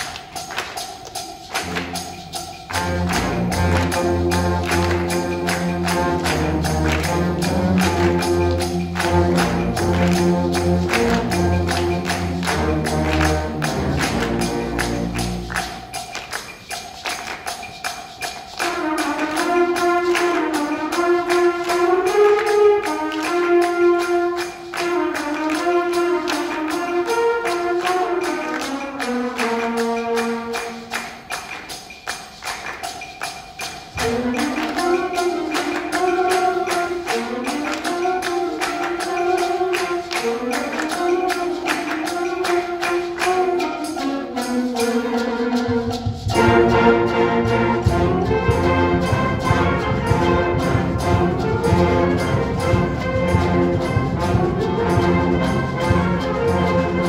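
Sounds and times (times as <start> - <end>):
concert band playing: 0.0 - 57.0.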